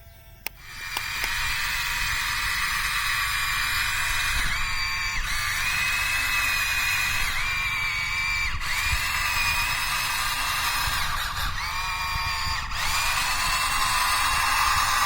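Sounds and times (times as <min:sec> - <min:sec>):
toy excavator motors whining: 0:00.0 - 0:15.0.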